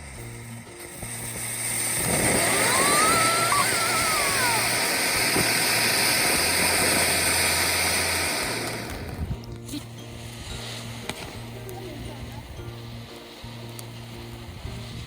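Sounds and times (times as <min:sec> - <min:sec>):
firework hissing: 0:00.0 - 0:15.0.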